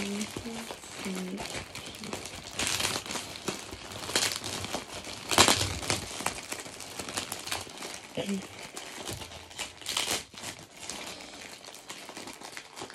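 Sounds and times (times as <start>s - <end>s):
plastic bag crinkling: 0.0s - 12.9s.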